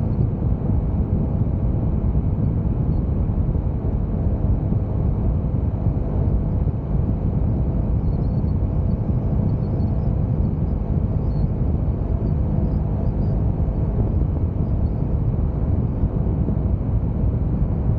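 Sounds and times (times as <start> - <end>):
motorcycle engine at steady speed: 0.0 - 17.9
road and wind noise: 0.0 - 17.9.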